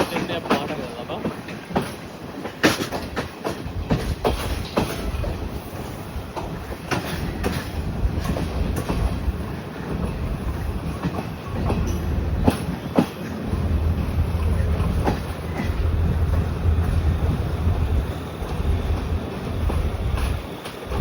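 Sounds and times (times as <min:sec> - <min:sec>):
train rumble: 0:00.0 - 0:21.0
train wheels clicking over joints: 0:00.0 - 0:21.0.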